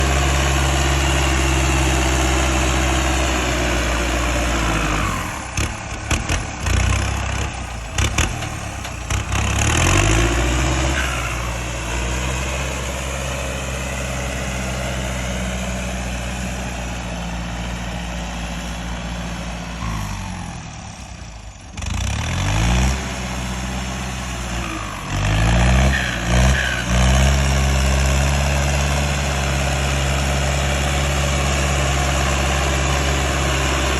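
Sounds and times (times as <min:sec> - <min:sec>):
tractor diesel engine revving: 0:00.0 - 0:33.9.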